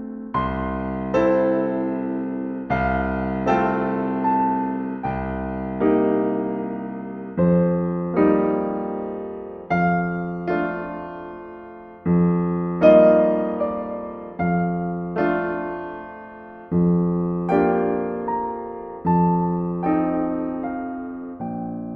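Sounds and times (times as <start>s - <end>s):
slow solo piano chords: 0.0s - 21.9s.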